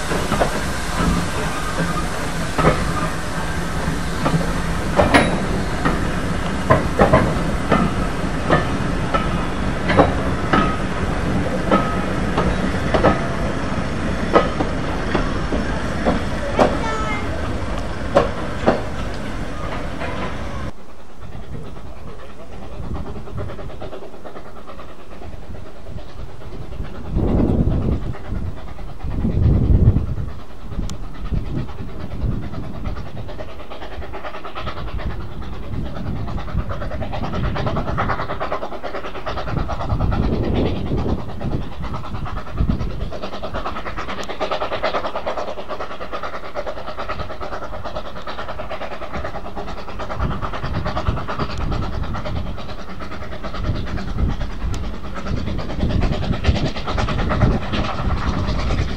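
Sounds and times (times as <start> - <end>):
steam locomotive chuffs: 0.0 - 58.9
train wheels clattering on rails: 0.0 - 58.9.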